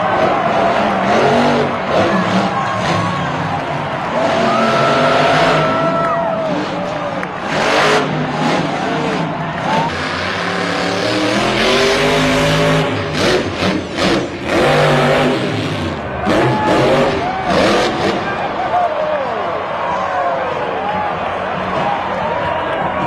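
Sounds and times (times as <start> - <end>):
monster truck engines revving: 0.0 - 23.0.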